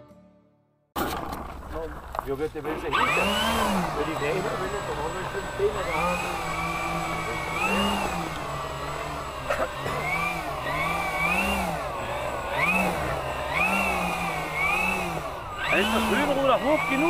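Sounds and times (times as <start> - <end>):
model plane propellers revving: 2.6 - 17.0.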